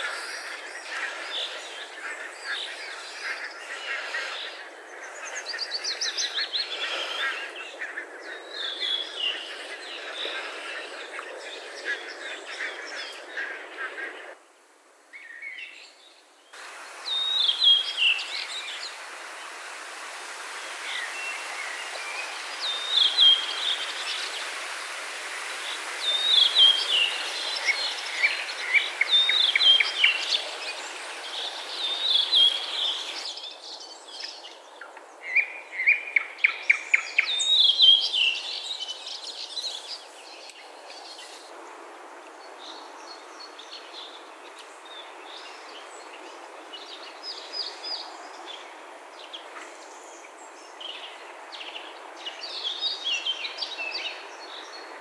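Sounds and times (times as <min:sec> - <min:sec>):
songbirds singing: 0:00.0 - 0:14.6, 0:15.2 - 0:19.6, 0:20.6 - 0:24.8, 0:25.5 - 0:55.0
steady outdoor hiss: 0:00.0 - 0:55.0.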